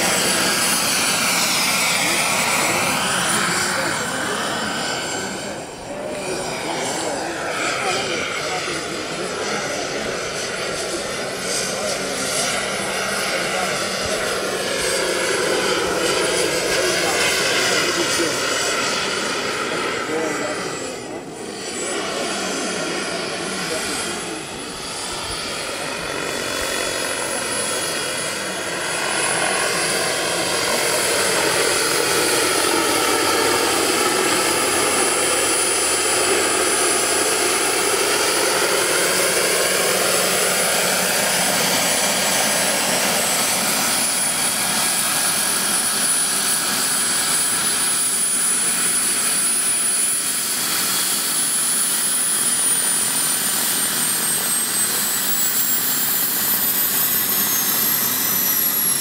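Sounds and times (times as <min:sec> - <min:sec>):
helicopter rotor noise: 0:00.0 - 0:59.0
model turbine whine: 0:00.0 - 0:59.0.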